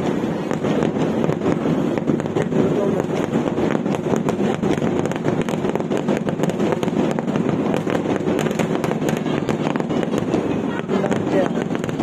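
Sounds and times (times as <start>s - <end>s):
firecracker bangs and crackles: 0.0s - 12.0s.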